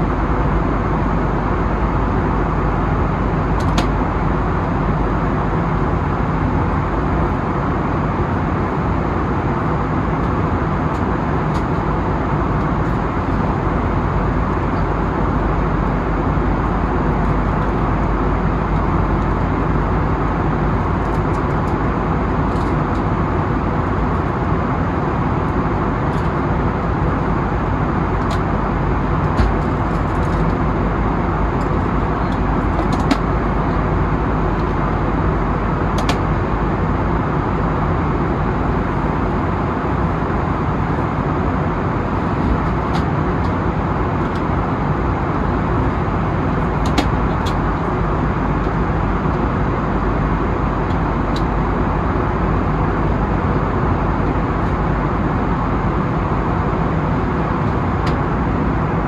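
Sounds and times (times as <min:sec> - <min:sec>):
airplane cabin engine rush: 0:00.0 - 0:59.0.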